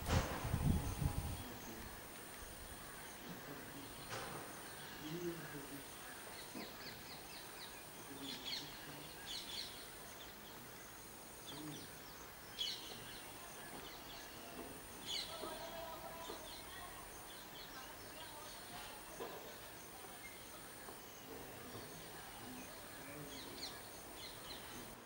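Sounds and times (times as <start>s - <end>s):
bird chirping: 0.6s - 25.0s.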